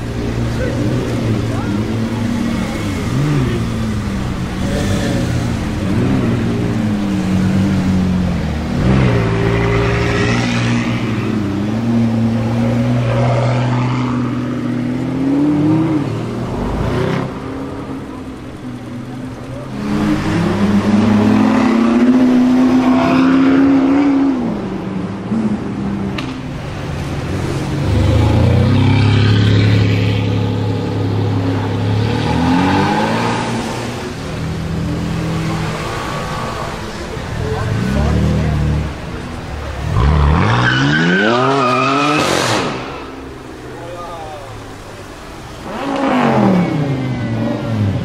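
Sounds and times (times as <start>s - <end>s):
car accelerating: 0.0s - 48.0s.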